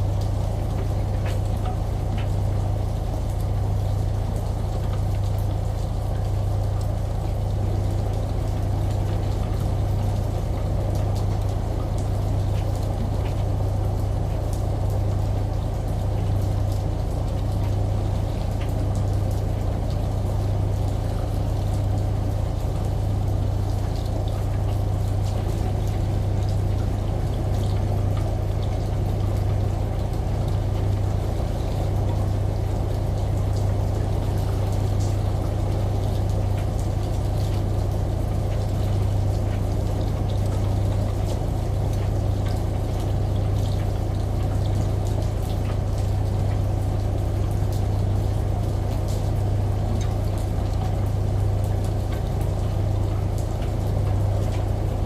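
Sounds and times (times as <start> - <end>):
faint water drips: 0.0 - 55.0
rain falling: 0.0 - 55.0
shower running: 0.0 - 55.0
washing machine humming: 0.0 - 55.0.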